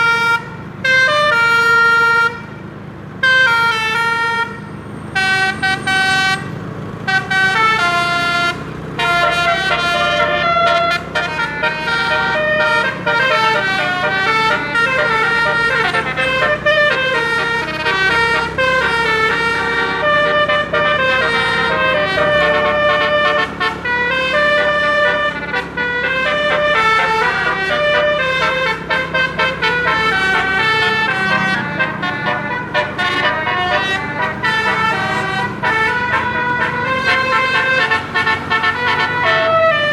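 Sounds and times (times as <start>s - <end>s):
bus air horn playing melody: 0.0s - 39.9s
bus engine humming: 0.0s - 39.9s.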